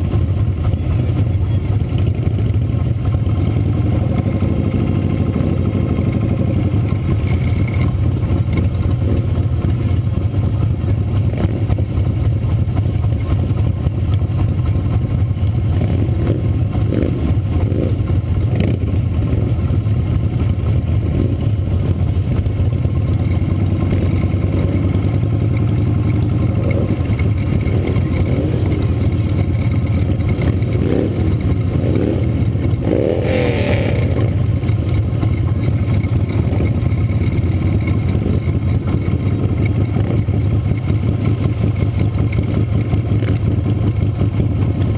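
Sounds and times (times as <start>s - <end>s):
motorcycle engines running: 0.0s - 44.9s.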